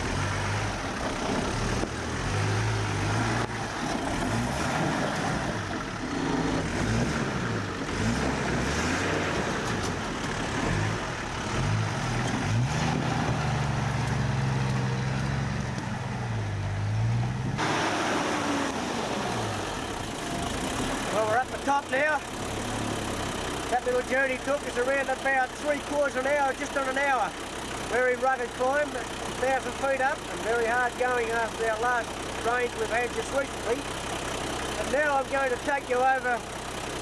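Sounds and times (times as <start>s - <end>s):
engine labouring up rough track: 0.0s - 37.0s.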